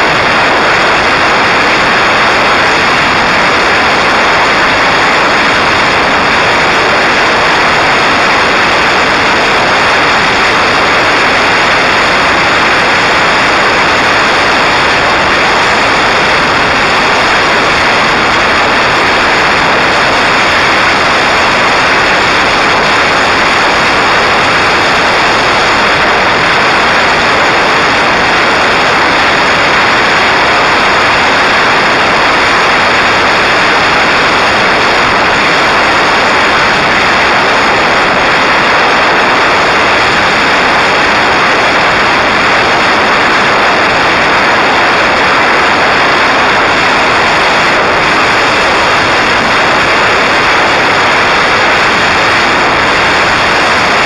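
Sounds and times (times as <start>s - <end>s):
faint steady whine: 0.0s - 54.0s.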